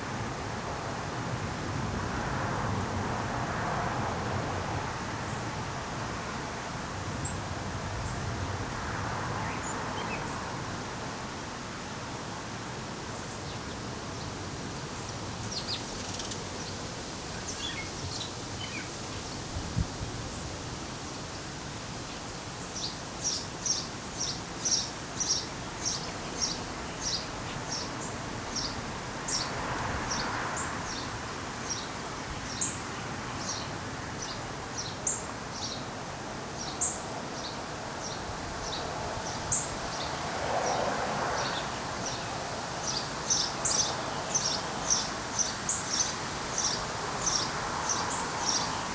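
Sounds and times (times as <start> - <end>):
steady outdoor hiss: 0.0 - 48.9.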